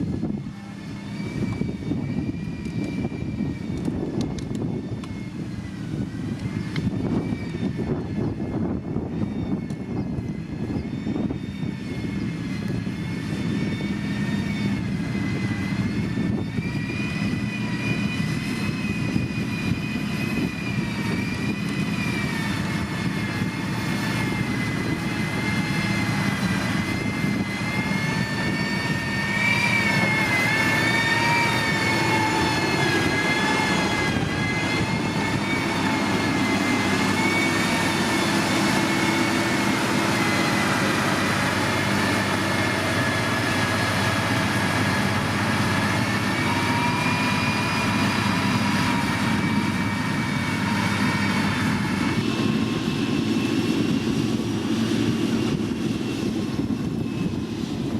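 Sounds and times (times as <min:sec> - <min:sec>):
diesel engine running: 0:00.0 - 0:57.9
high wavering whine: 0:00.0 - 0:57.9.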